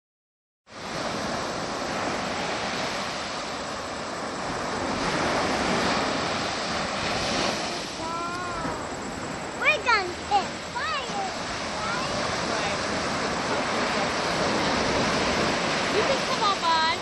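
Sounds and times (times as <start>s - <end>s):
waves breaking: 0.7s - 17.0s.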